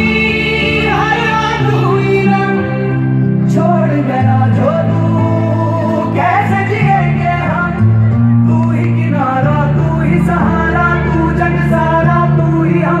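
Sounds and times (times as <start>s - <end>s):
instrumental chords and bass: 0.0s - 13.0s
person singing: 0.0s - 13.0s.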